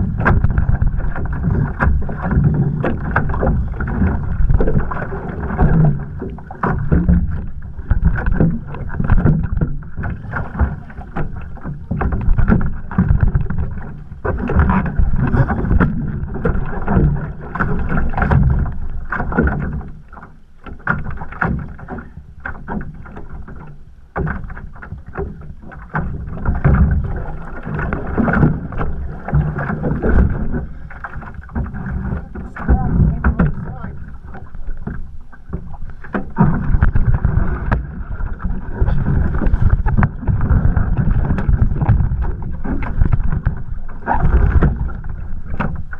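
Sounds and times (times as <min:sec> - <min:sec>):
water splashing against canoe hull: 0:00.0 - 0:45.9.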